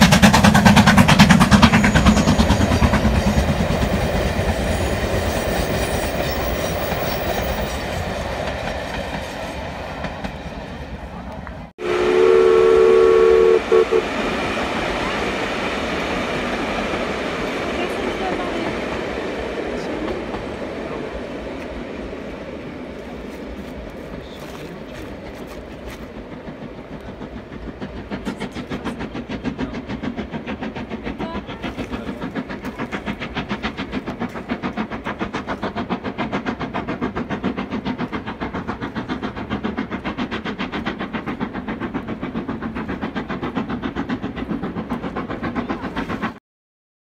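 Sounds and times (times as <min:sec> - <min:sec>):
steam locomotive chuffing: 0:00.0 - 0:46.4.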